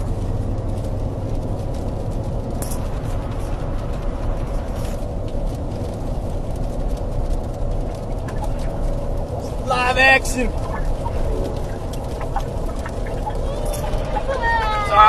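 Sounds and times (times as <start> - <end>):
car engine and road rumble: 0.0 - 15.0
faint steady whine: 0.0 - 15.0.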